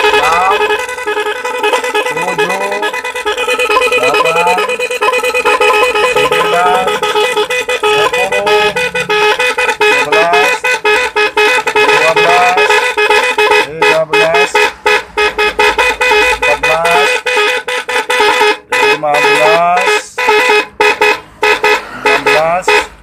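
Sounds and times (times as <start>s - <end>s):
electronic motorcycle horn stuttering tone: 0.0s - 23.0s.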